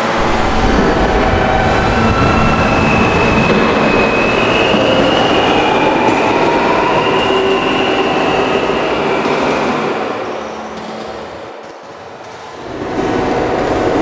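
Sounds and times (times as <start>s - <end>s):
wheels squealing on rails: 0.0s - 11.4s
subway train rumbling: 0.0s - 14.0s.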